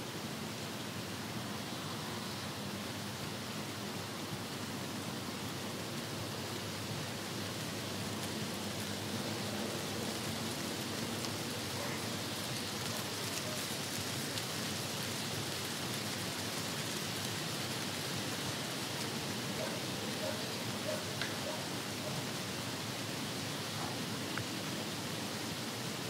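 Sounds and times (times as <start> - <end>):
wind: 0.0 - 26.0
dry leaves rustling: 1.2 - 26.0.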